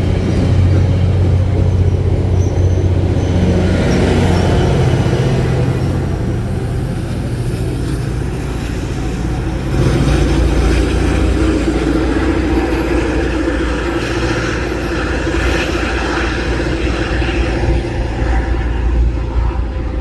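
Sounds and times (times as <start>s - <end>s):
diesel train rumble: 0.0s - 20.0s
wheel and rail noise: 0.0s - 20.0s.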